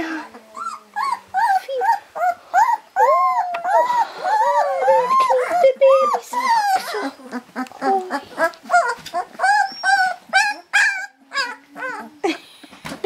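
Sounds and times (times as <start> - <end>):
puppies whimpering and squeaking: 0.0 - 12.4.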